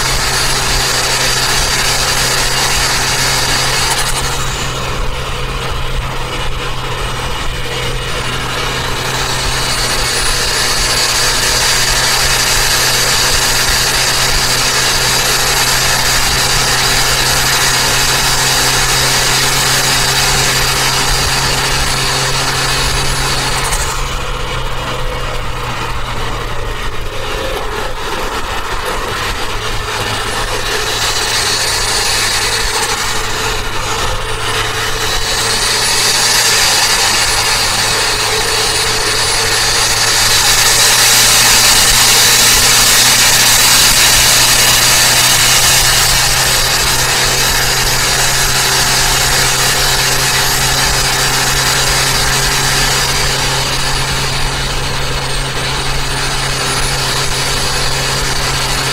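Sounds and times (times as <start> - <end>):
car engine drone: 0.0 - 58.9
road and wind noise: 0.0 - 58.9.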